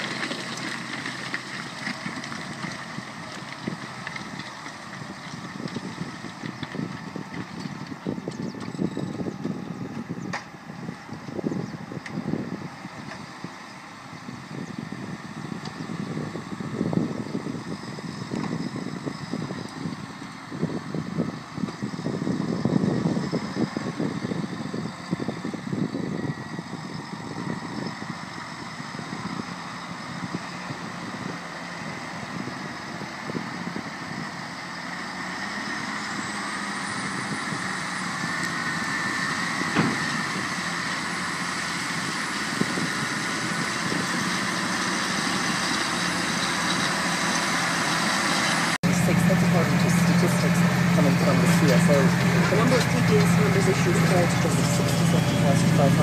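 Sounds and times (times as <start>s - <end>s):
tractor diesel engines running: 0.0s - 56.0s
wind rumbling on microphone: 0.0s - 56.0s.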